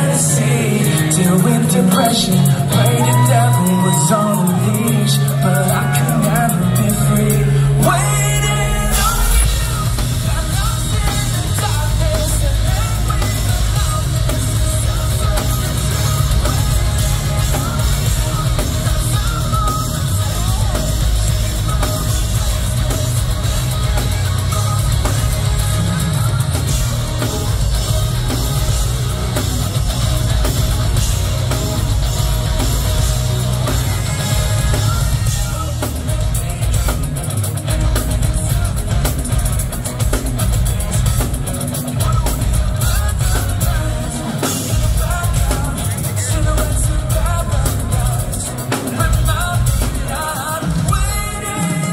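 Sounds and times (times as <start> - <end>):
bass guitar: 0.0 - 51.9
distorted electric guitars: 0.0 - 51.9
drum kit: 0.0 - 51.9
person singing: 0.0 - 51.9.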